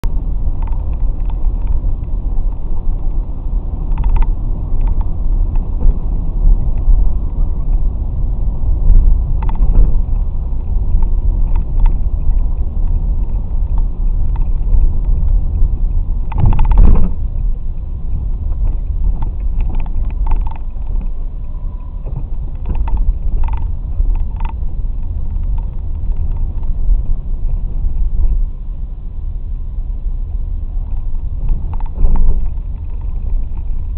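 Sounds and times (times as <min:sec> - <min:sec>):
motorcycle engine rumble: 0:00.0 - 0:33.9
wind noise: 0:00.0 - 0:33.9.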